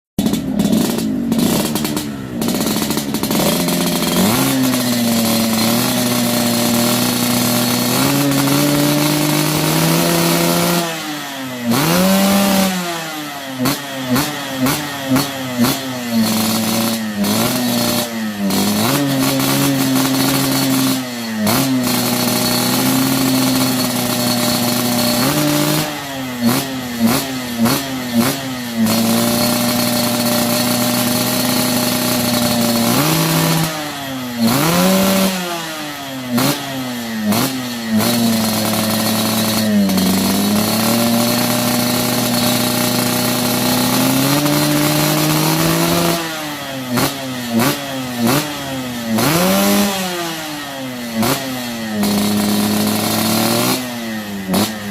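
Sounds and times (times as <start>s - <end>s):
motorcycle engine revving: 0.2s - 54.9s.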